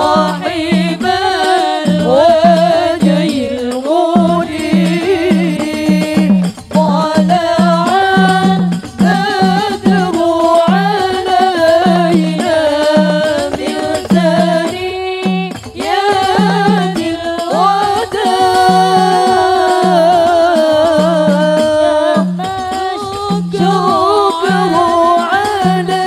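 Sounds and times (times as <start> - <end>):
repeating drum beat: 0.0 - 26.0
women singing through pa: 0.0 - 26.0.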